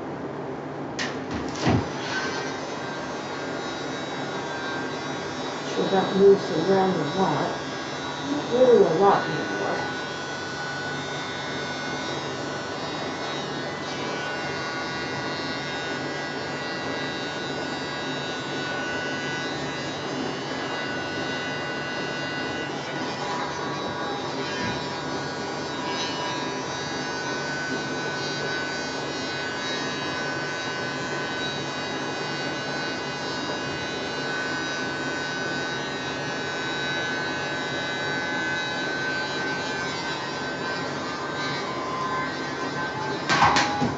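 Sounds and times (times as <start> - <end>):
electric blower motor whine: 0.0 - 43.9.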